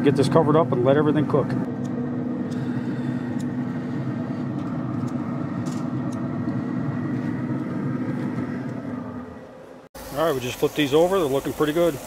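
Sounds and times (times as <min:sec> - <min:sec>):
grill fan humming: 0:00.0 - 0:12.0.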